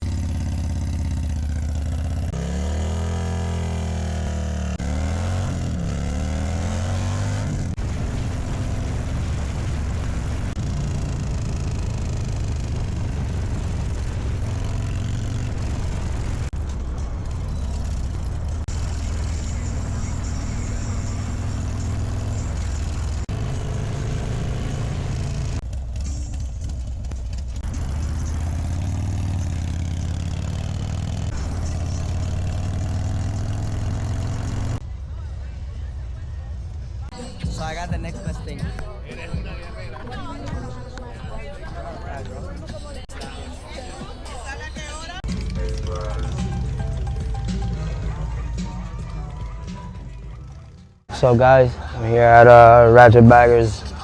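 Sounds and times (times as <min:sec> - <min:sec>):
motorcycle engine revving: 0:00.0 - 0:34.8, 0:44.8 - 0:54.0.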